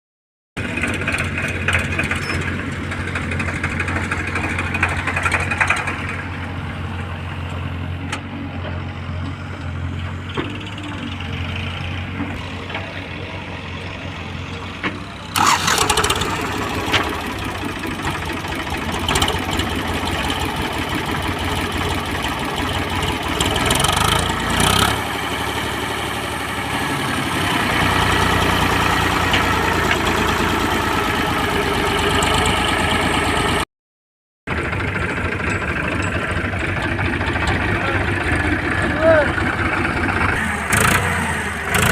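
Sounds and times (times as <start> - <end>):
diesel engines running: 0.6 - 33.6, 34.5 - 41.9.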